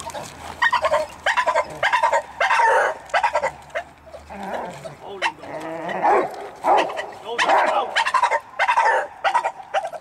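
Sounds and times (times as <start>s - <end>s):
dog barking and growling: 0.7s - 10.0s.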